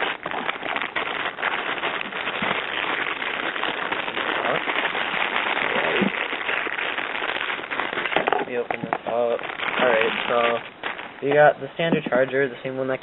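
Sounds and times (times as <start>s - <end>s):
packaging crackling rustle: 0.0s - 13.0s.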